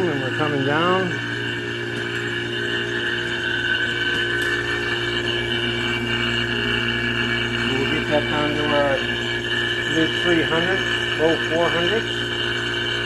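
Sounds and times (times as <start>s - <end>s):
vacuum pump humming: 0.0s - 13.0s.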